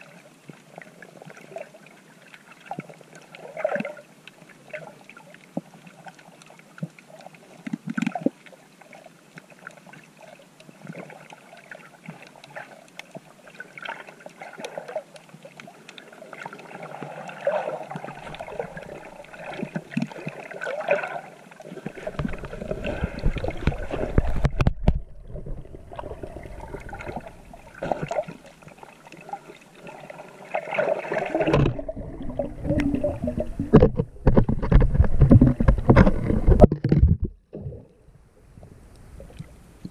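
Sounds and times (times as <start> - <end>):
low rumbling of churned water: 0.0 - 39.9
water sloshing and gurgling: 0.0 - 39.9
faint crackles: 0.1 - 37.7.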